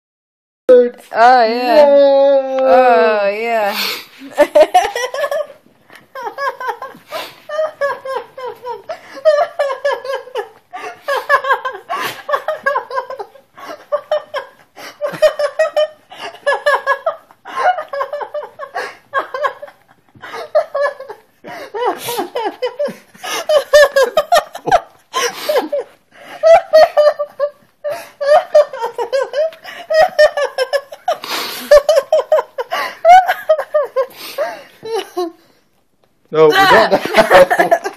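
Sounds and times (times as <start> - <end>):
woman laughing: 4.2 - 35.4, 36.5 - 37.9.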